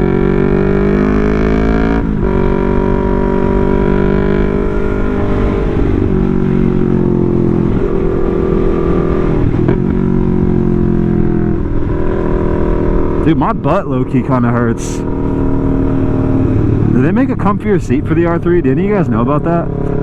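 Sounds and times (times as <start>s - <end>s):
motorcycle engine with gear changes: 0.0s - 20.0s.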